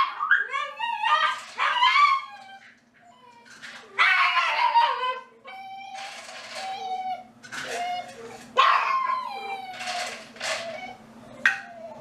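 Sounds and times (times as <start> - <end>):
dogs whining and yipping: 0.0 - 12.0.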